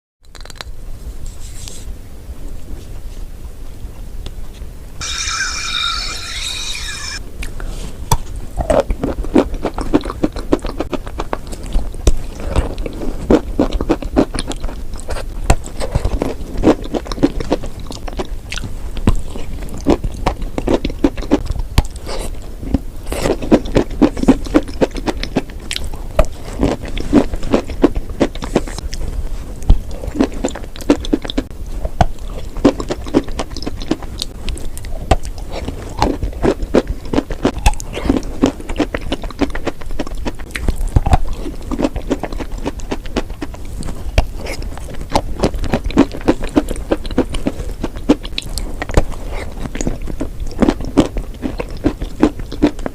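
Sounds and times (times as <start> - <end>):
crisp chewing crunches: 5.0 - 52.9.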